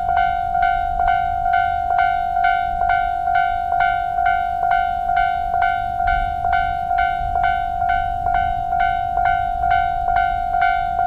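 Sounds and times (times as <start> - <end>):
level crossing bell ringing: 0.0 - 11.0.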